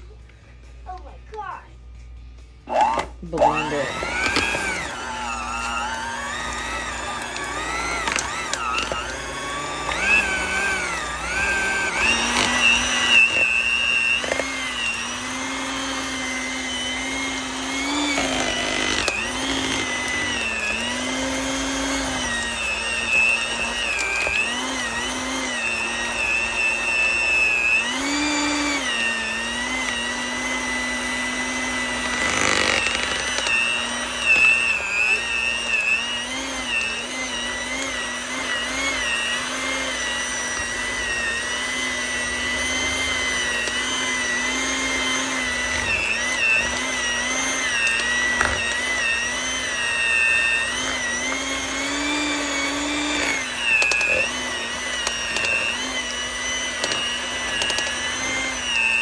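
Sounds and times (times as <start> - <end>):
electric hand mixer motor: 0.0 - 59.0.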